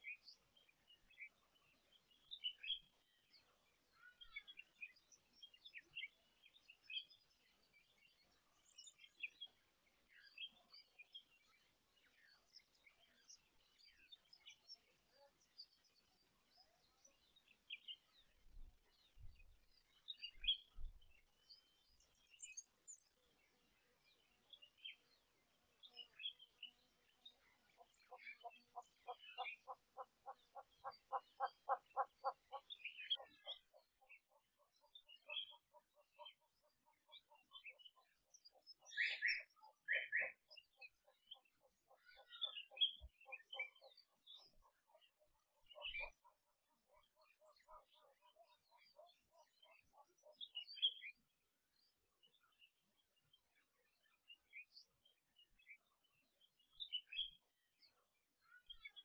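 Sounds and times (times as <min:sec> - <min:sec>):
wild birds chirping: 0:00.0 - 0:59.0.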